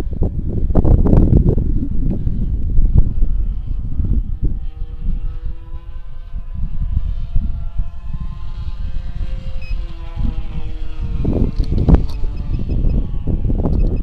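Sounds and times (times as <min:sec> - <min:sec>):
model plane engine running: 0:00.0 - 0:14.0
wind buffeting microphone: 0:00.0 - 0:14.0.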